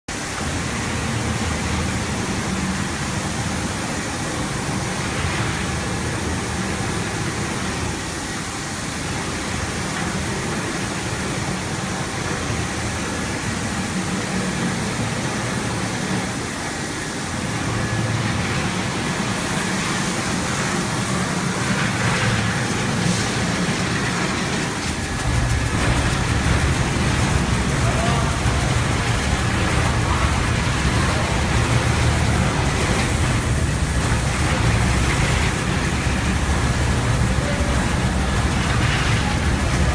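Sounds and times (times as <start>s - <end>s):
carpet washing machine running: 0.1s - 39.9s.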